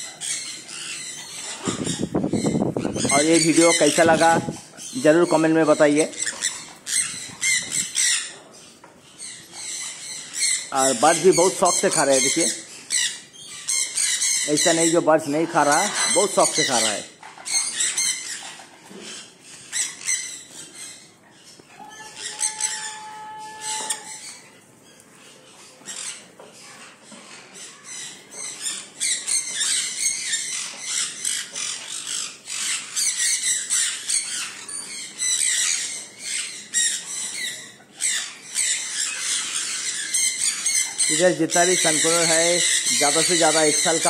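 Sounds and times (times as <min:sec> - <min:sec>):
parrots chattering and squawking: 0:00.0 - 0:44.0.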